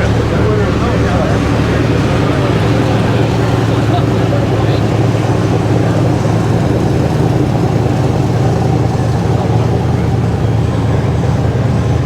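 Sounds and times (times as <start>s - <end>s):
car engine running low: 0.0s - 12.0s.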